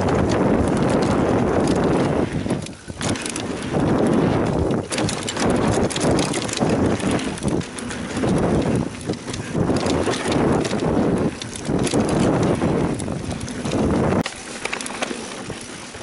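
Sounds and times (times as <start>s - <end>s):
wind on microphone: 0.0s - 14.4s
bike chain and frame rattling: 0.0s - 16.0s
bike tyres rolling on dirt: 0.0s - 16.0s.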